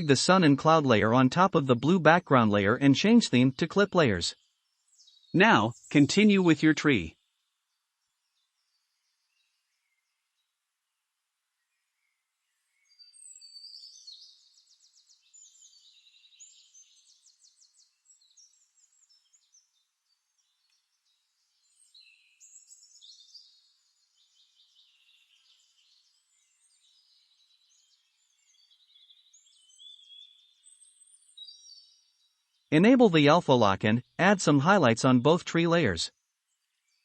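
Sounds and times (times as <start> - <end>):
small birds chirping and trilling: 0.0 - 37.0.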